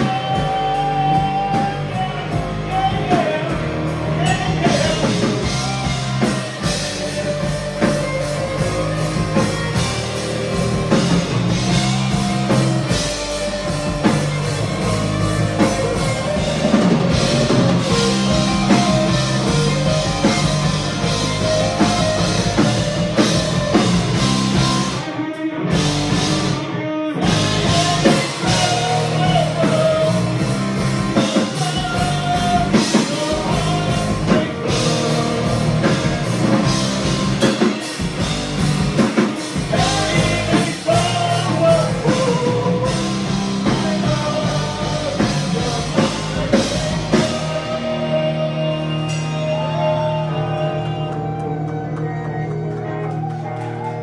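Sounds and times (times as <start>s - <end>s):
rock music with singing: 0.0s - 54.0s.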